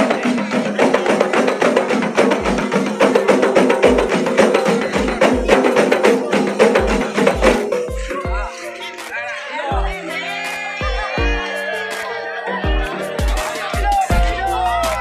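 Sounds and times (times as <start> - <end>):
frame drums playing: 0.0 - 8.7, 9.7 - 12.0, 12.6 - 15.0.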